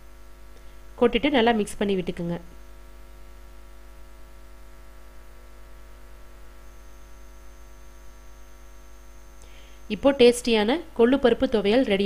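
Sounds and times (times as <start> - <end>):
electrical mains hum: 0.0 - 12.0
faint high whine: 0.0 - 12.0.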